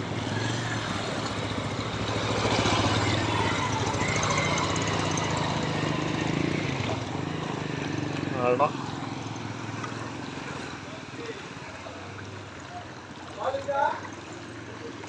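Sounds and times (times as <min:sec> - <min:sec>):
motorcycle engines: 0:00.0 - 0:15.0
water splashing around wheels: 0:00.0 - 0:15.0.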